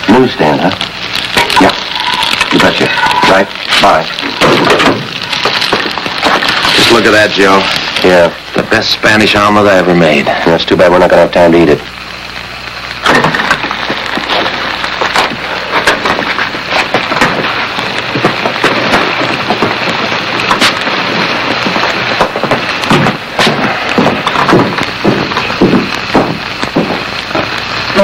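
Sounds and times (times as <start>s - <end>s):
food sizzling in frying pan: 0.0s - 28.0s.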